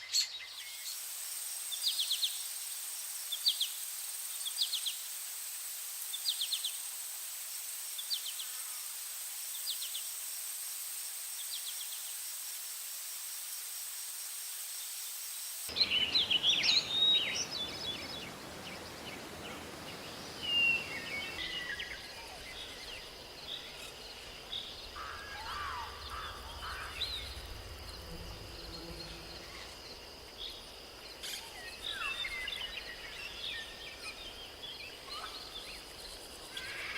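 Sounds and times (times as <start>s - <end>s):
high insect drone: 0.6s - 36.9s.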